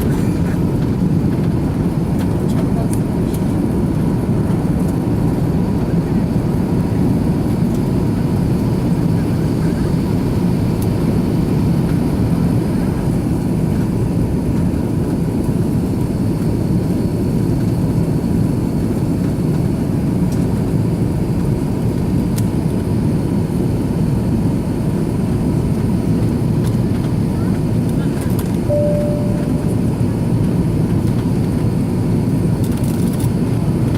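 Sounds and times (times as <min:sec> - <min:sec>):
jet engine cabin roar: 0:00.0 - 0:33.9.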